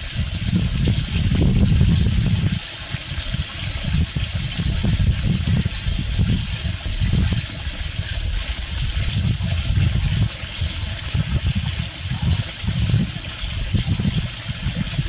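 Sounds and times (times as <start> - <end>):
wind gusts on microphone: 0.0 - 15.0.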